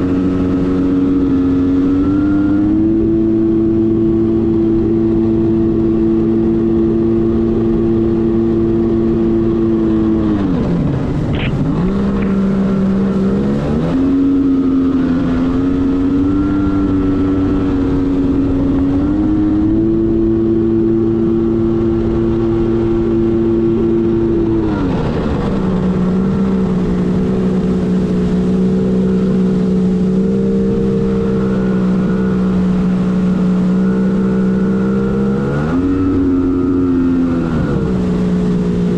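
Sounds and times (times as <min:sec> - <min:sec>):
personal watercraft engine running: 0:00.0 - 0:38.9.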